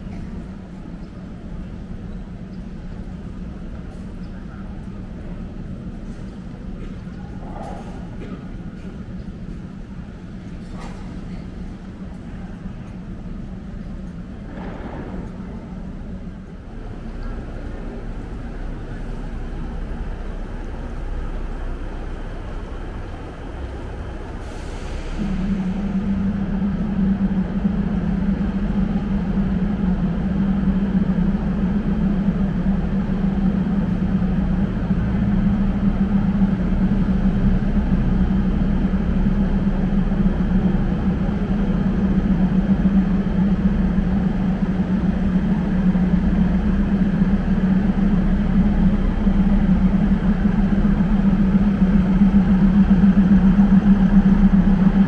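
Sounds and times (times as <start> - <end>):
diesel train engine drone: 0.0 - 55.0.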